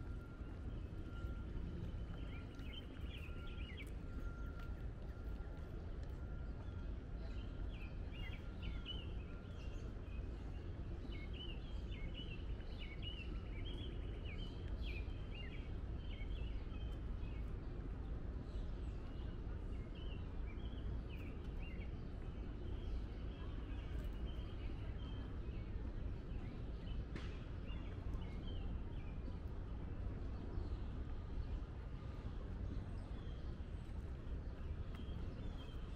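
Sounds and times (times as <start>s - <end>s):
low outdoor rumble: 0.0s - 11.3s, 11.9s - 35.9s
songbirds chirping: 0.0s - 35.9s.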